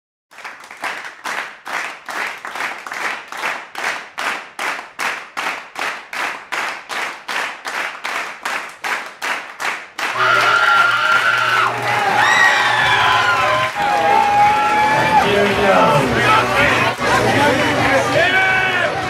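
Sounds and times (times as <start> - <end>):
rhythmic hand clapping: 0.3 - 18.0.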